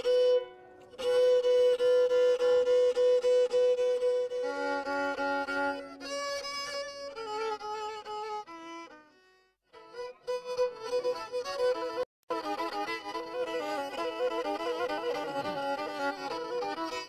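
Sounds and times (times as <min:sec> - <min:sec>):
bowed fiddle folk tune: 0:00.0 - 0:17.0.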